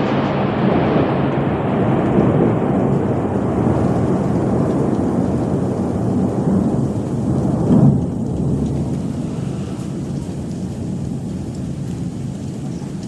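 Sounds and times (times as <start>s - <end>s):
rolling thunder rumbling: 0.0s - 13.0s.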